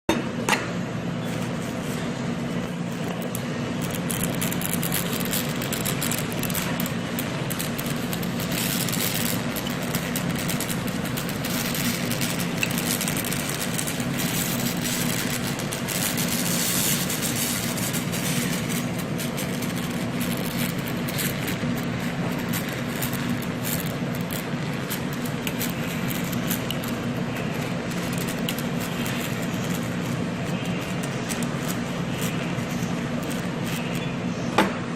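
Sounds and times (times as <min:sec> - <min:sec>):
machine hum: 0:00.1 - 0:34.9
laser welding crackle of clicks: 0:01.4 - 0:34.3.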